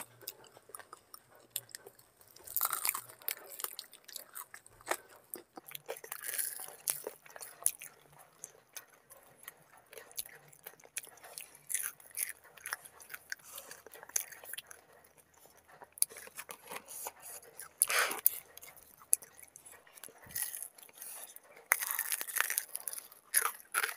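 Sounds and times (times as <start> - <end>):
crunching and chewing food: 0.0 - 23.9.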